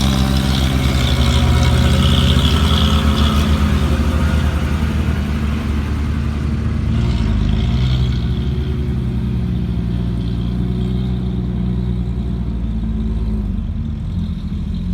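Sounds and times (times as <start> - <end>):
heavy diesel engine running: 0.0 - 14.9.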